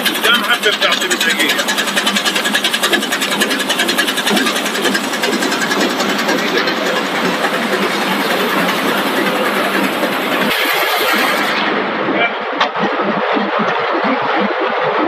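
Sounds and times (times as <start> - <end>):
rapid mechanical clatter: 0.0 - 15.0
steady machine noise: 0.0 - 15.0.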